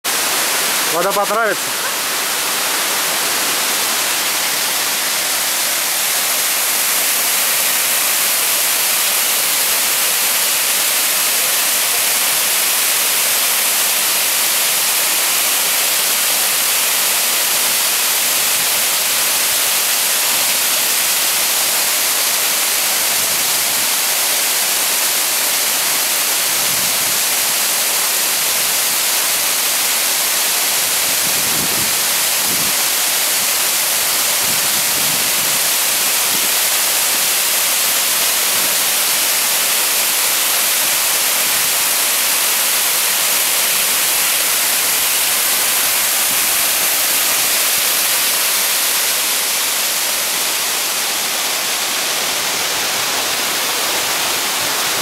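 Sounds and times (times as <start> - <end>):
large waterfall rushing: 0.0 - 55.0.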